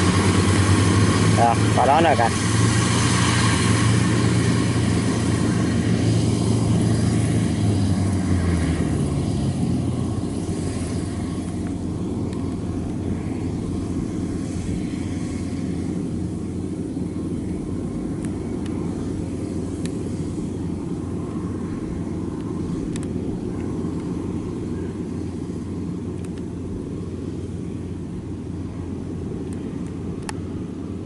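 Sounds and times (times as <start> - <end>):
combine harvester running: 0.0 - 31.0.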